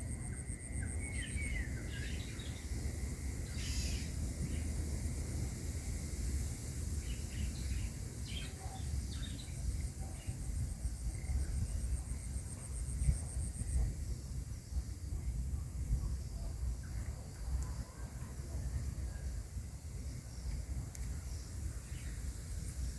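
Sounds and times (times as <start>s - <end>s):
insect high-pitched pulsing trill: 0.0s - 22.9s
steady low rumble: 0.0s - 22.9s.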